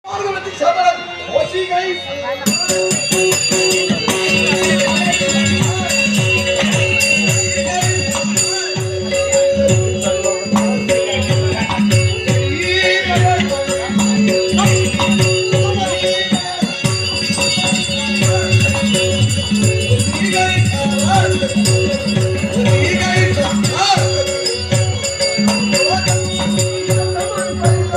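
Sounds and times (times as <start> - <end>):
steady held tones: 0.4 - 27.9
hand drum beat: 2.5 - 27.9.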